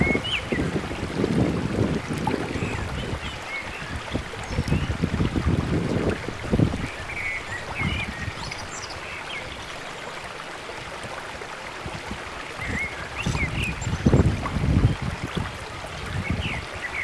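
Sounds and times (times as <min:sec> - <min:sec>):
wind buffeting the microphone: 0:00.0 - 0:09.6, 0:11.0 - 0:17.0
water draining from a field: 0:00.0 - 0:17.0.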